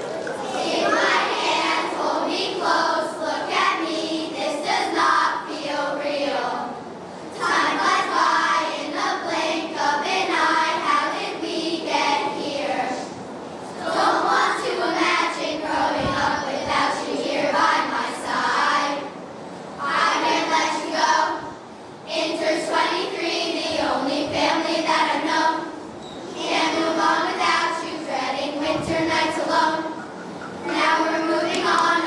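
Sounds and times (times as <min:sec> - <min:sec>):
girls choir singing: 0:00.0 - 0:32.0.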